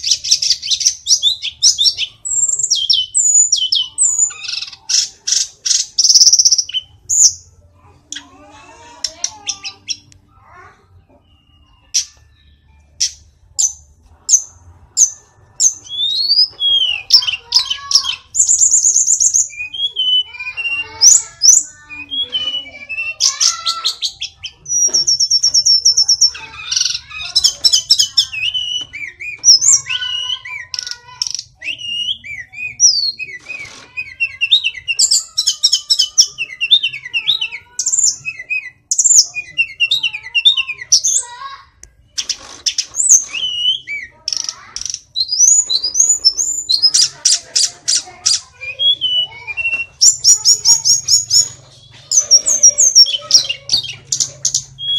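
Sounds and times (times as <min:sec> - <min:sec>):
bird singing varied song: 0:00.0 - 0:54.9.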